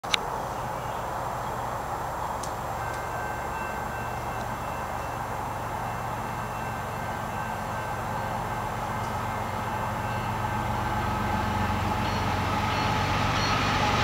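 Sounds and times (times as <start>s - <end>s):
distant freight train: 0.0s - 14.0s
faint high steady tones: 0.4s - 13.8s.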